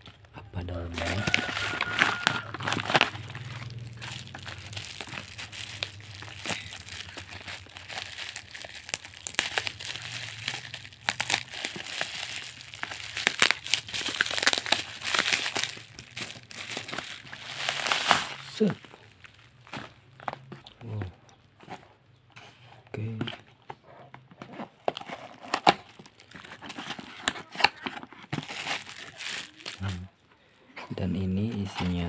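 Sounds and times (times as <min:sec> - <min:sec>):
bubble wrap and paper crinkling: 0:00.0 - 0:21.8, 0:24.8 - 0:30.2, 0:31.2 - 0:32.0.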